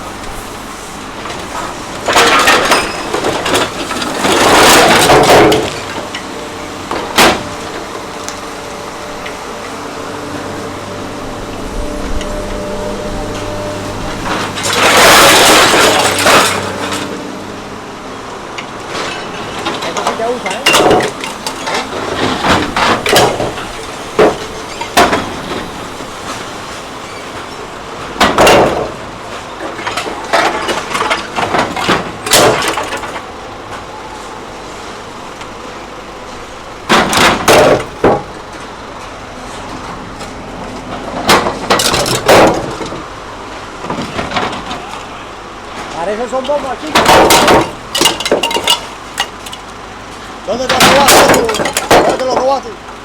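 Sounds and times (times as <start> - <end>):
engine running: 0.0 - 53.0
scrap metal clanking and crashing: 0.0 - 53.0.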